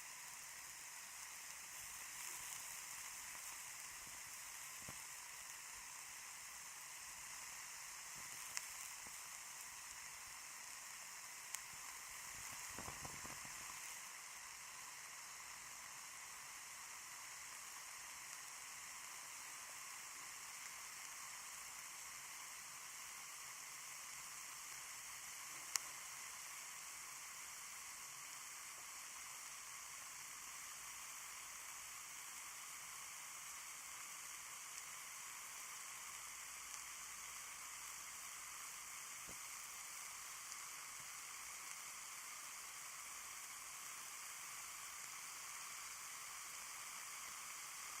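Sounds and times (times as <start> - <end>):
ear candles hissing: 0.0 - 48.0
soft crackles: 0.0 - 48.0.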